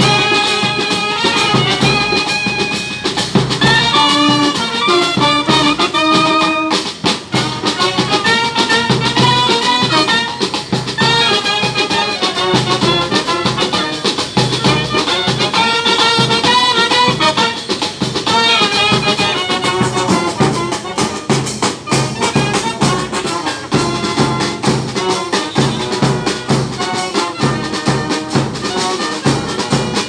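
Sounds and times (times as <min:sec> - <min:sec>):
bass drum and snare drum beat: 0:00.0 - 0:30.0
trumpets and euphoniums: 0:00.0 - 0:30.0.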